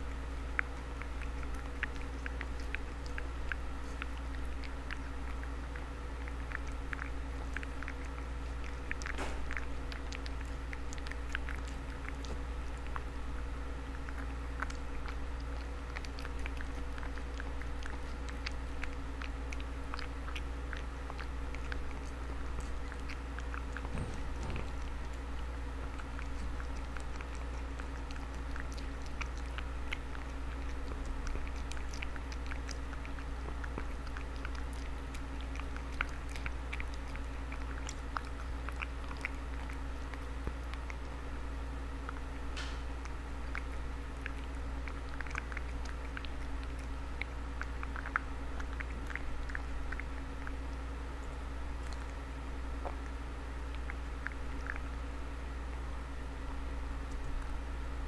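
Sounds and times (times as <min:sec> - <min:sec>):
cat chewing and lapping food: 0:00.0 - 0:58.0
steady low hum: 0:00.0 - 0:58.0.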